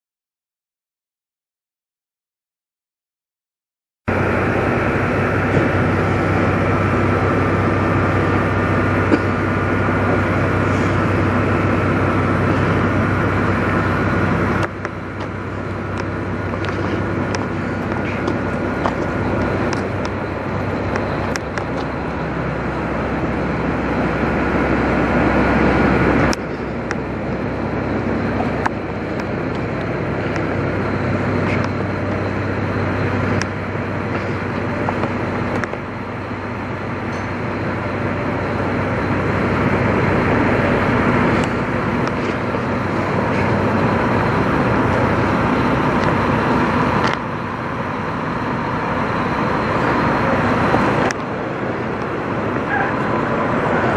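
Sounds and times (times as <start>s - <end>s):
diesel truck engine idling: 4.1s - 53.9s.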